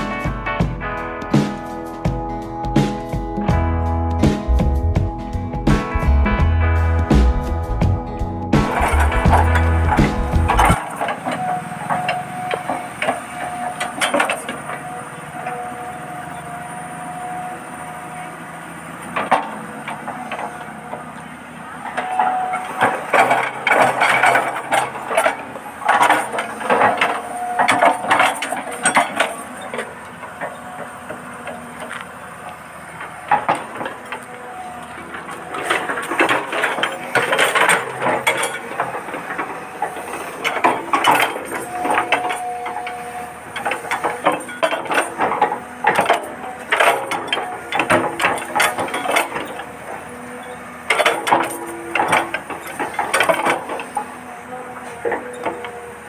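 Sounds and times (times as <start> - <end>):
toy excavator motors whirring: 8.7 - 56.0.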